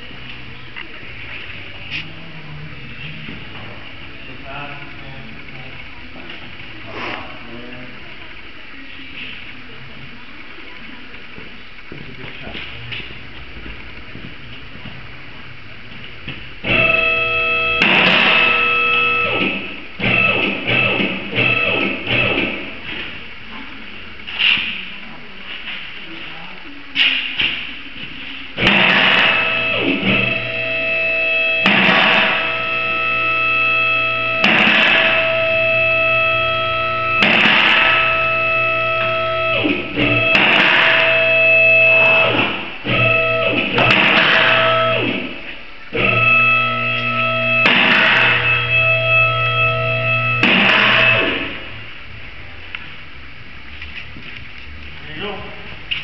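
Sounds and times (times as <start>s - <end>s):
low hum and hiss: 0.0s - 56.0s.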